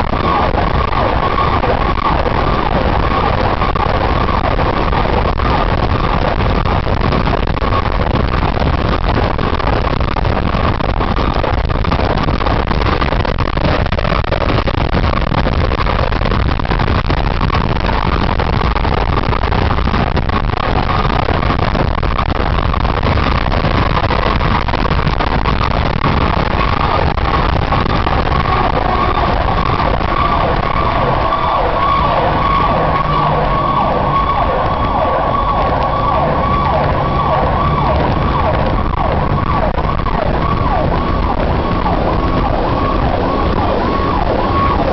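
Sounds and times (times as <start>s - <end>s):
engine and road noise: 0.0s - 44.9s
high siren tone: 0.0s - 44.9s
lower siren tone: 0.0s - 44.9s
wind rush on microphone: 0.0s - 44.9s.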